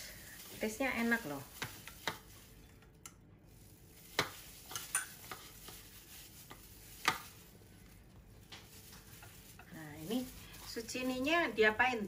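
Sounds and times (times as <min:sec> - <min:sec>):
plastic glove rustling: 0:00.0 - 0:12.0.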